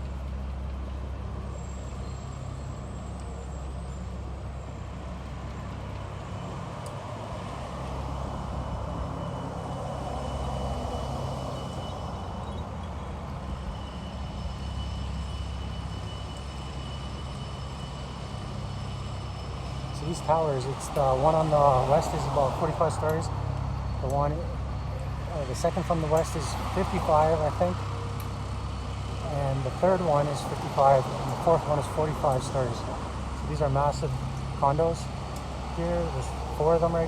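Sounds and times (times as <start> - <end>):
heavy traffic engine rumble: 0.0 - 37.0.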